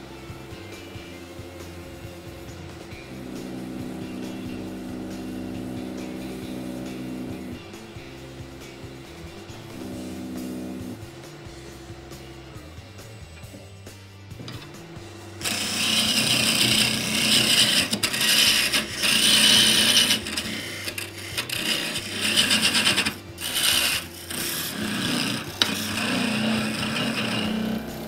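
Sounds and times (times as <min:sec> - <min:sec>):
lathe motor hum: 0:00.4 - 0:28.0
tool rasping on spinning wood: 0:01.3 - 0:13.7, 0:14.4 - 0:28.0.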